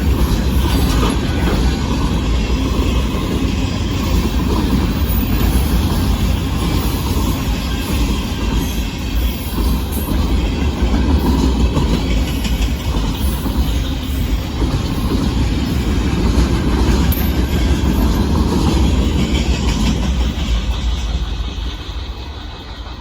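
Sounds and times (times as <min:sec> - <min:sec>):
freight train cars rumbling past: 0:00.0 - 0:23.0.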